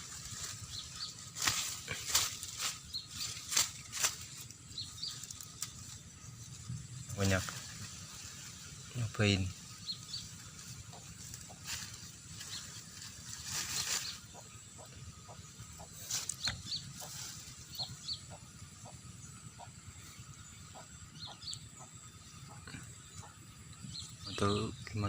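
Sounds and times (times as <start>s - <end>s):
rustling hiss: 0.0s - 25.0s.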